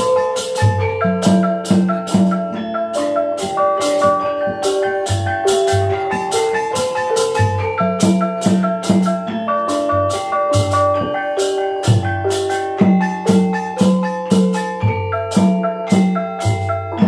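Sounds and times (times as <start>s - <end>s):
hand drum: 0.0s - 17.0s
kettle gongs ringing fast melody: 0.0s - 17.0s.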